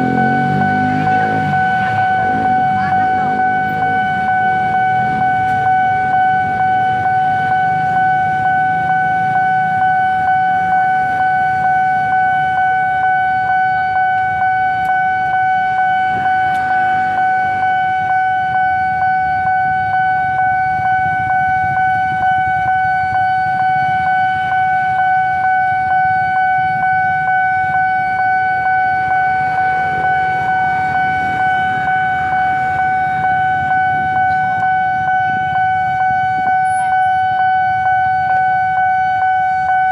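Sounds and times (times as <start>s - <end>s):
level crossing alarm tone: 0.0s - 39.9s.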